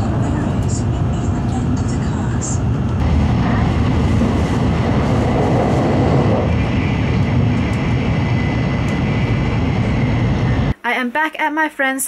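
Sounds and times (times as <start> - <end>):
train running noise inside car: 0.0 - 10.8.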